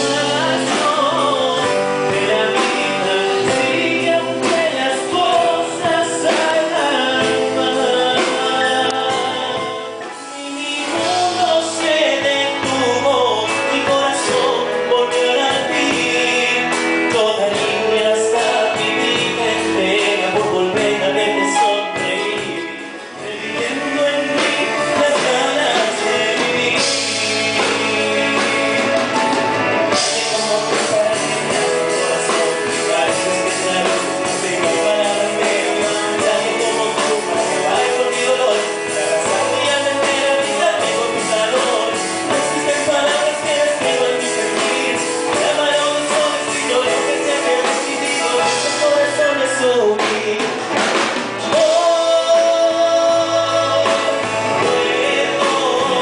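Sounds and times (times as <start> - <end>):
live band performing: 0.0 - 56.0.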